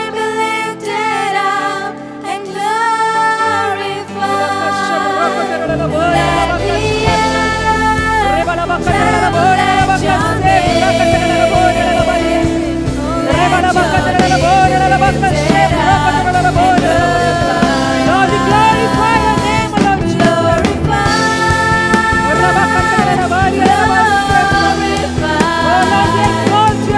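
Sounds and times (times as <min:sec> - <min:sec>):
person singing: 0:00.0 - 0:26.9
keyboard chords and bass: 0:04.2 - 0:26.9.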